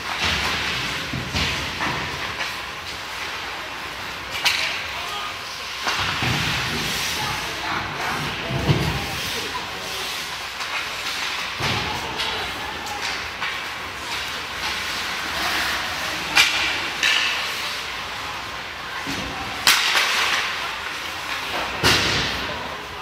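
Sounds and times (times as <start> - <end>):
hockey sticks hitting puck: 0.0 - 23.0.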